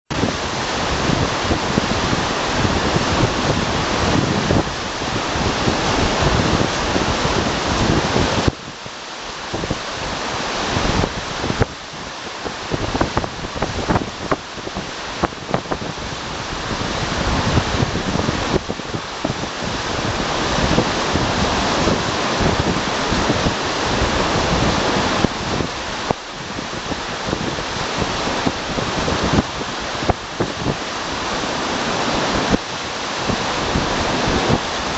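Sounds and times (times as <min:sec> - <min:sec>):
rain: 0:00.1 - 0:34.9
river water rushing: 0:00.1 - 0:34.9.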